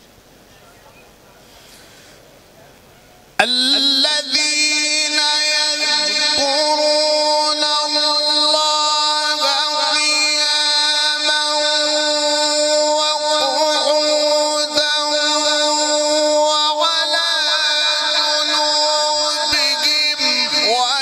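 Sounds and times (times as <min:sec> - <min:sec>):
man chanting melodic recitation: 0:03.4 - 0:21.0.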